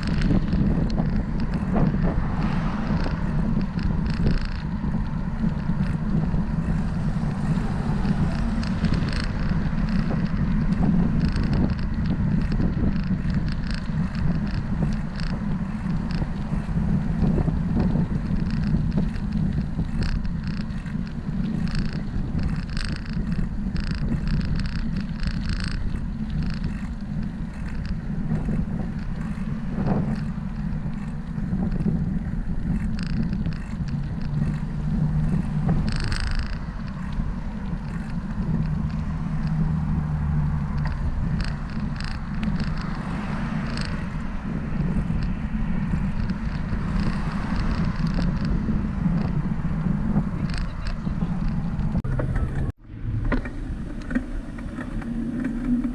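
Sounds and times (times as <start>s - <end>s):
bicycle riding rumble: 0.0s - 55.9s
short clicks and rattles: 0.0s - 55.9s.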